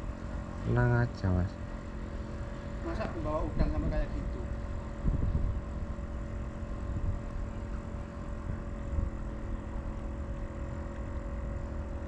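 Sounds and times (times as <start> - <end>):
motor humming with steady tones: 0.0 - 12.0.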